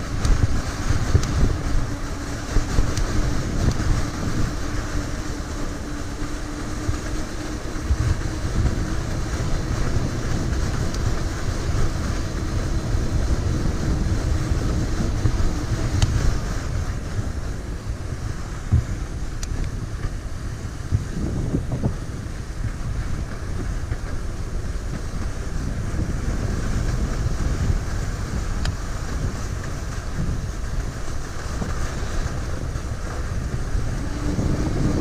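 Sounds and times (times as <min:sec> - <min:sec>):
electric hub motor hum: 0:00.0 - 0:35.0
tyres rumbling on snow: 0:00.0 - 0:35.0
wind on microphone: 0:00.0 - 0:35.0.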